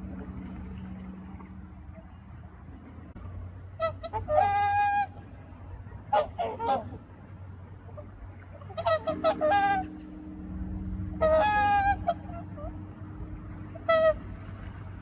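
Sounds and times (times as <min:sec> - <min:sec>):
low steady hum: 0:00.0 - 0:15.0
swans bugling honks: 0:00.0 - 0:15.0.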